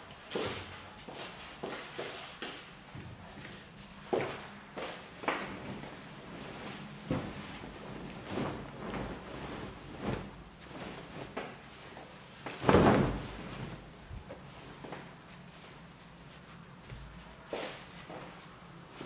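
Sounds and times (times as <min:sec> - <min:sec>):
fabric rustling over a table: 0:00.3 - 0:19.0.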